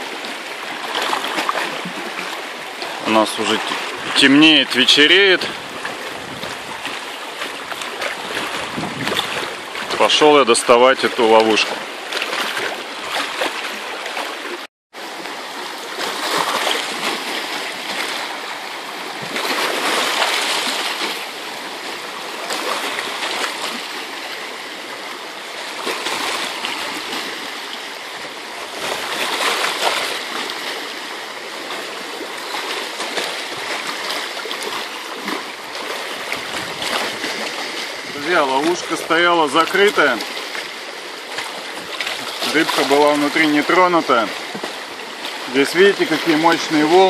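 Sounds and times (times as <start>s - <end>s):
sea water splashing on rocks: 0.0s - 47.0s.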